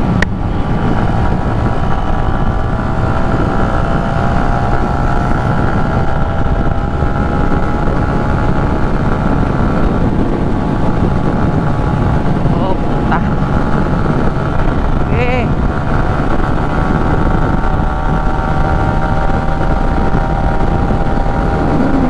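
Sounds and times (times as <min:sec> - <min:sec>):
motorcycle engine whine: 0:00.0 - 0:22.0
wind rumble on microphone: 0:00.0 - 0:22.0.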